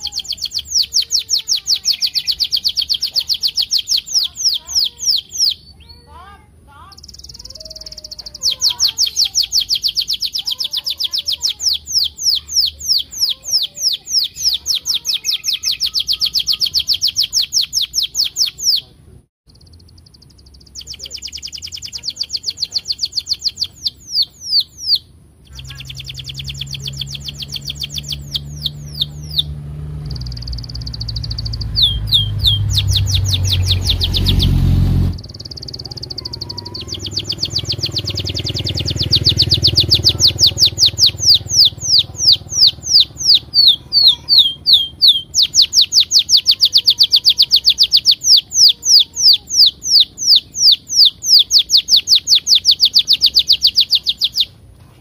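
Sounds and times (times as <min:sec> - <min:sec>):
canary singing trills: 0:00.0 - 0:54.7.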